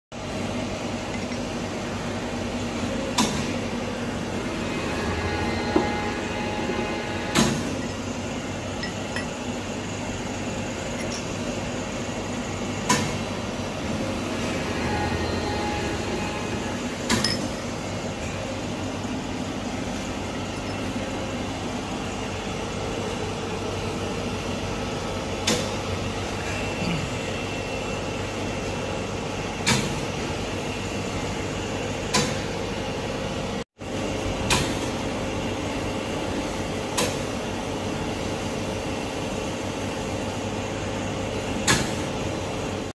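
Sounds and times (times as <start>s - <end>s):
machine humming and hissing: 0.2s - 42.9s.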